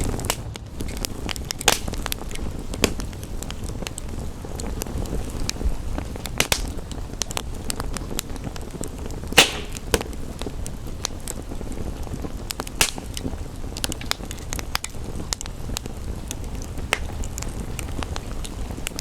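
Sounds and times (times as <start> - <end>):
rain hiss: 0.0 - 19.0
wood fire crackling and popping: 0.0 - 19.0.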